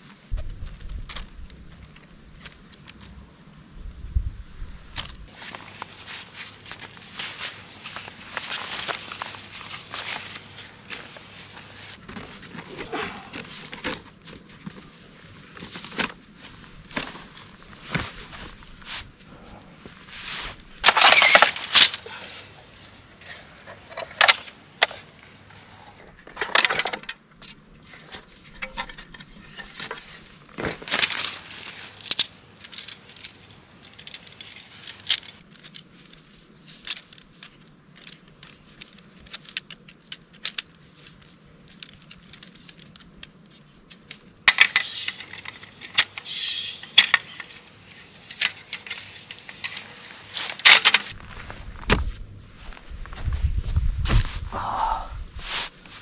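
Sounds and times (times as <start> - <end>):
rustling and clatter: 4.9 - 22.1, 22.8 - 54.5.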